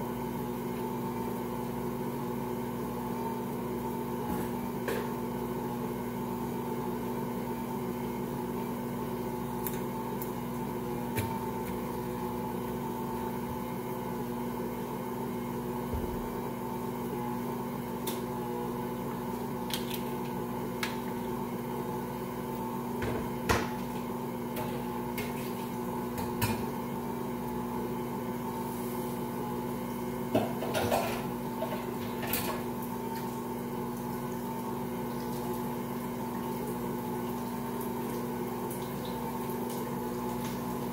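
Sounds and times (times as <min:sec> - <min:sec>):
dough kneading in mixer bowl: 0:00.0 - 0:40.9.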